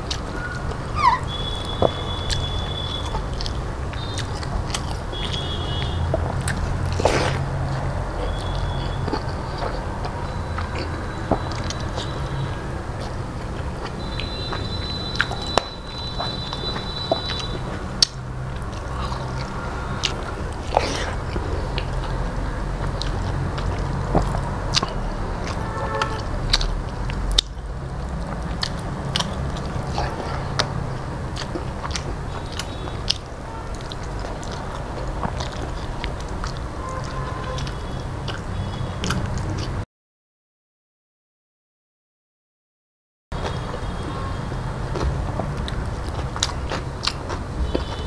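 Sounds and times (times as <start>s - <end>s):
man chewing and mouth sounds: 0.0s - 39.8s, 43.4s - 48.0s.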